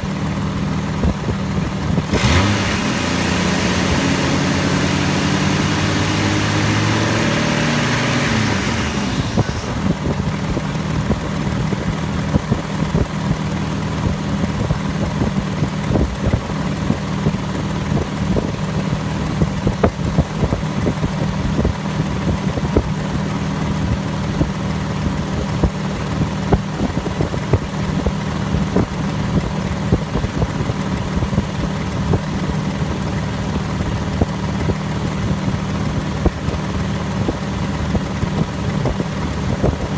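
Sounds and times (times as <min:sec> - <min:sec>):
car engine revving and idling: 0:00.0 - 0:39.9
engine ticks: 0:00.0 - 0:39.9.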